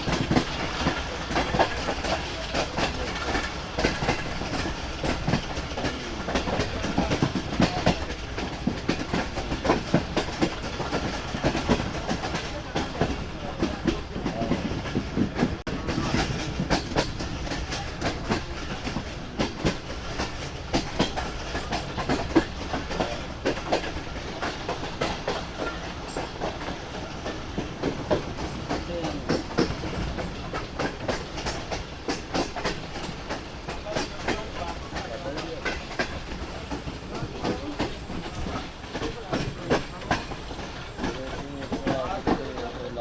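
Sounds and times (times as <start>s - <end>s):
train rumbling along track: 0.0s - 43.0s
wheels clacking and knocking: 0.0s - 43.0s.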